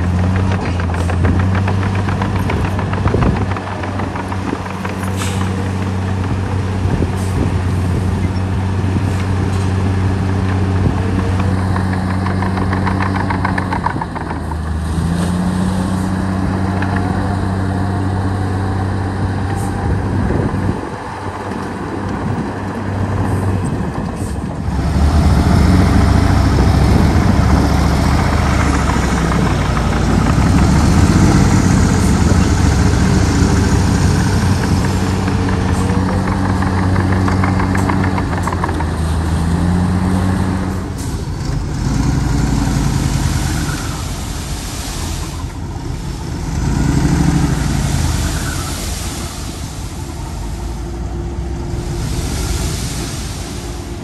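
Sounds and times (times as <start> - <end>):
heavy diesel engine revving: 0.0 - 54.0.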